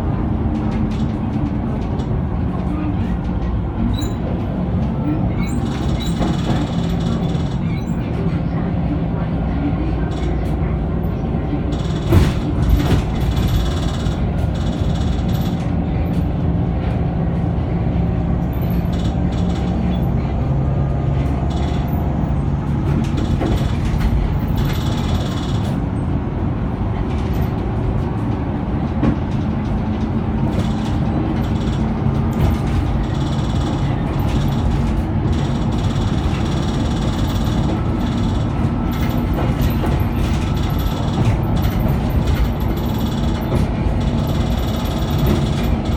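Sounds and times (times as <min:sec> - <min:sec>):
bus body rattling: 0:00.0 - 0:45.9
bus diesel engine running: 0:00.0 - 0:45.9.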